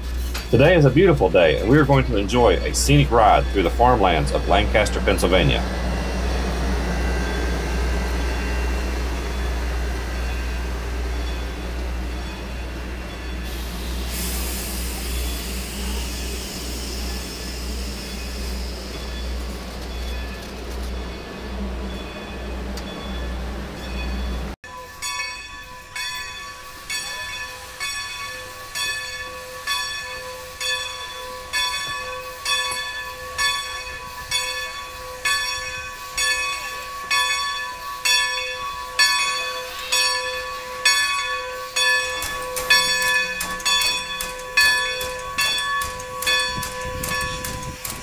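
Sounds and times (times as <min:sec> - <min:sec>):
locomotive bell ringing: 0:00.0 - 0:48.0.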